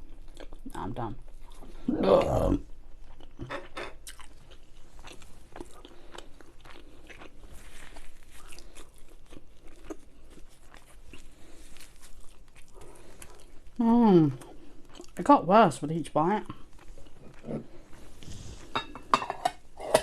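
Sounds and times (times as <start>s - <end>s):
person chewing food: 0.0s - 15.2s, 16.4s - 20.0s.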